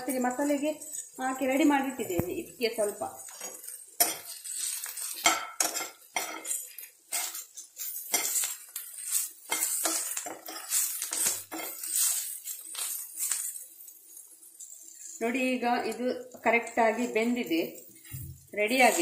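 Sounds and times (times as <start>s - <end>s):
metal spoon scraping frying pan: 0.0s - 19.0s.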